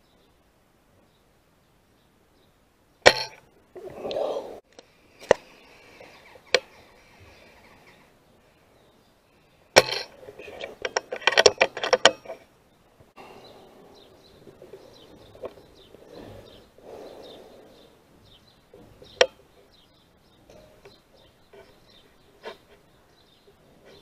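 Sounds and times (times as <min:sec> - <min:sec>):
bird calls: 0:01.0 - 0:24.0.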